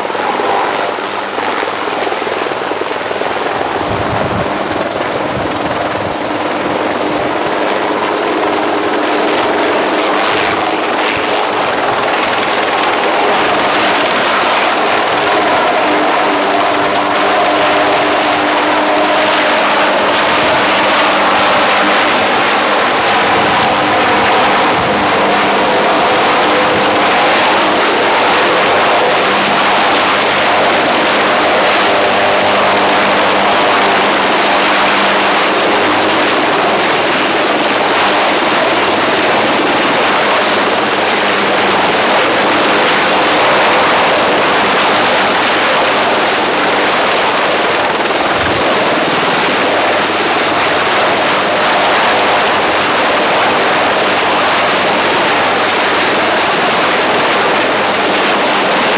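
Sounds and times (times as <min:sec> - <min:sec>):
helicopter engine whine: 0:00.0 - 0:58.9
helicopter rotor rushing: 0:00.0 - 0:58.9.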